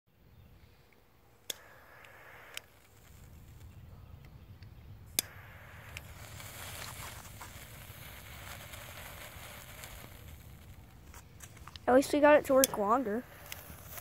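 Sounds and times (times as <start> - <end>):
burning mix hissing and crackling: 0.6 - 14.0.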